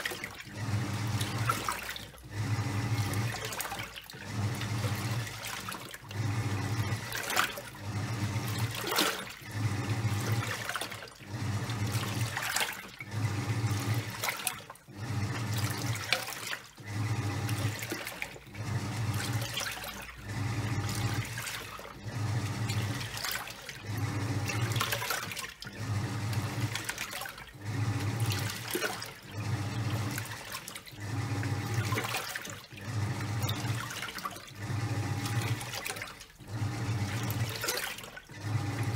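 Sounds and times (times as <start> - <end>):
washing machine motor humming: 0.0 - 38.9
water sloshing and splashing: 0.0 - 38.9.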